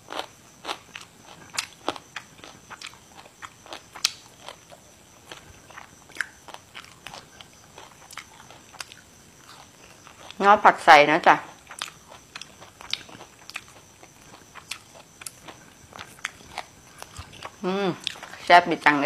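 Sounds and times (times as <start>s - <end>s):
chewing crisp vegetables: 0.0s - 19.0s.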